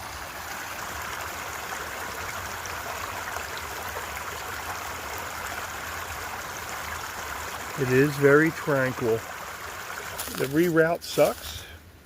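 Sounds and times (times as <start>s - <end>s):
brook babbling over rocks: 0.0s - 11.7s.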